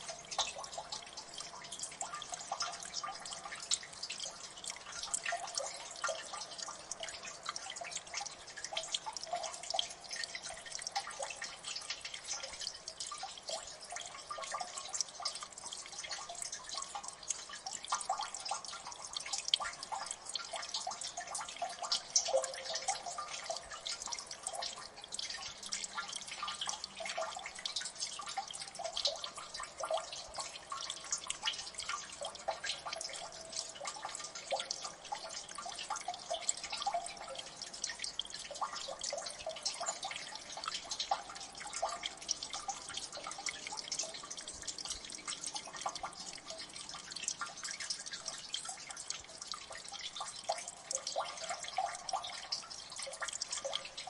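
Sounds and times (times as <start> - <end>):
water dripping: 0.0 - 54.0.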